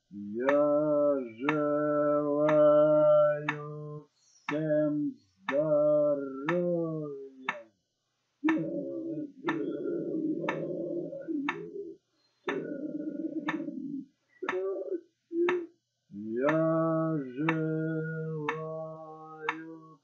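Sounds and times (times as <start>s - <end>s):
low voice chanting: 0.0s - 7.7s, 8.4s - 20.0s
metronome-like sharp clicks: 0.4s - 7.8s, 8.4s - 15.8s, 16.4s - 20.0s.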